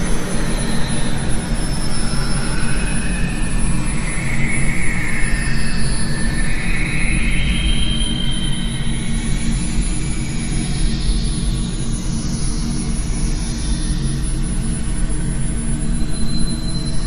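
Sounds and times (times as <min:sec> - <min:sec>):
low rumbling drone with hiss: 0:00.0 - 0:17.0.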